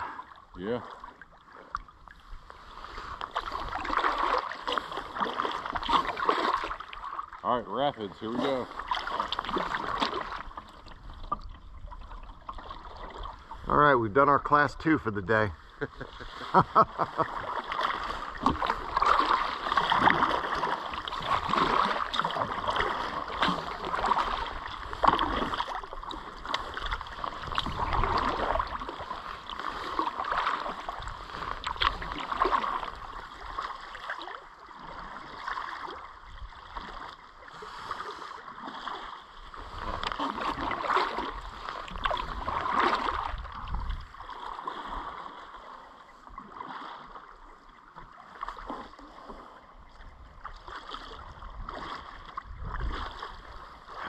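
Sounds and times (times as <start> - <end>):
kayak paddle splashing: 0.0 - 54.0.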